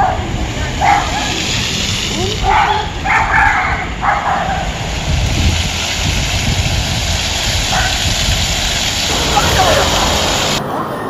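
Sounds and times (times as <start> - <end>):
fountain water splashing: 0.0 - 10.8
city street noise: 0.0 - 11.0.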